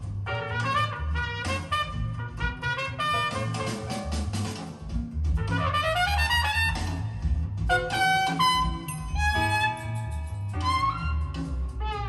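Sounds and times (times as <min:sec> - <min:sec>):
jazz with horns and bass through speakers: 0:00.0 - 0:12.0.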